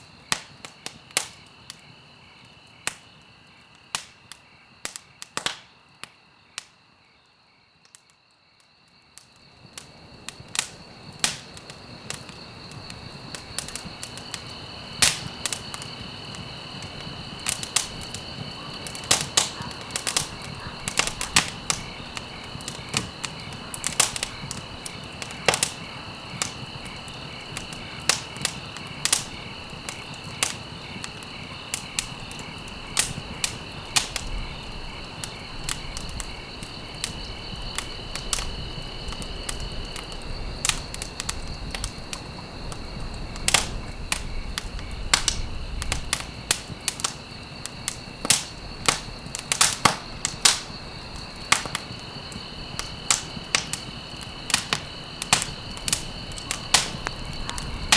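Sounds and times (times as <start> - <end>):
wood fire crackling: 0.0 - 6.7, 8.9 - 57.9.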